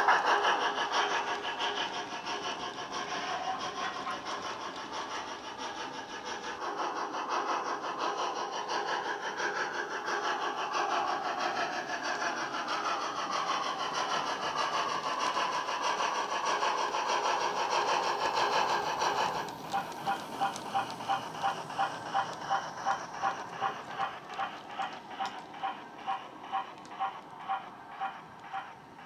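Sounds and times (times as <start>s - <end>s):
steam locomotive chuffs: 0.0s - 29.0s.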